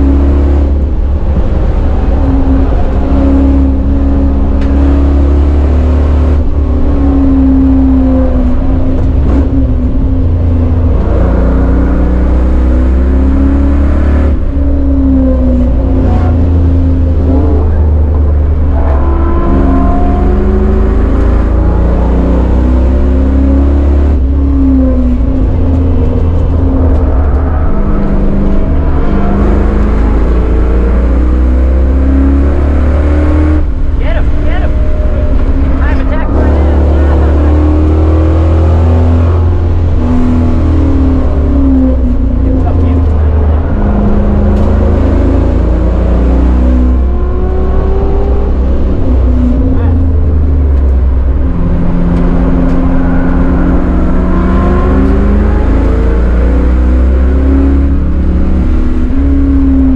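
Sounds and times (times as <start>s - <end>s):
car engine revving: 0.0s - 59.9s
road and wind rumble: 0.0s - 59.9s.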